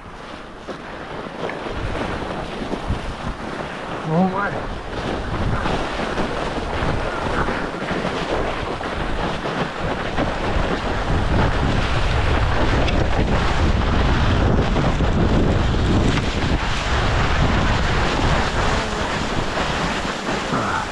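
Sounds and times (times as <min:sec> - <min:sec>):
snow hissing and scraping: 0:00.0 - 0:20.9
wind buffeting microphone: 0:00.0 - 0:20.9.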